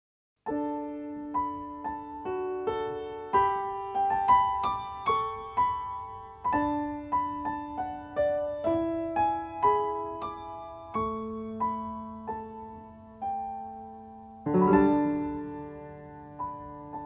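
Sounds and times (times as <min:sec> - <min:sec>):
gentle piano music: 0:00.4 - 0:17.0.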